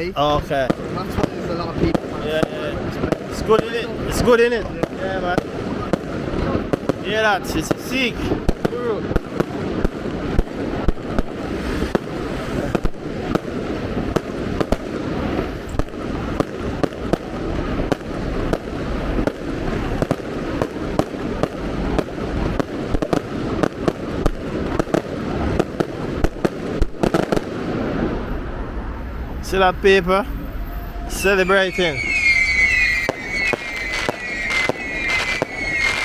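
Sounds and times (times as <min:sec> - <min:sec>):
fireworks bangs and cracks: 0:00.0 - 0:30.0, 0:30.9 - 0:36.0.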